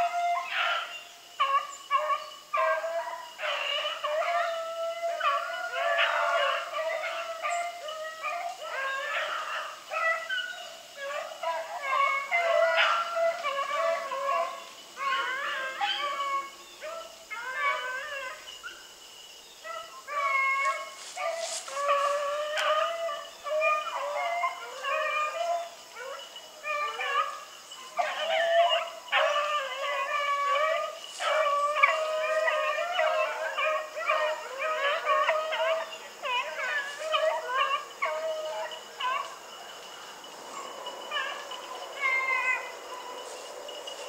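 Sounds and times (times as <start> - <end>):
dogs baying: 0.0 - 18.8, 19.6 - 44.0.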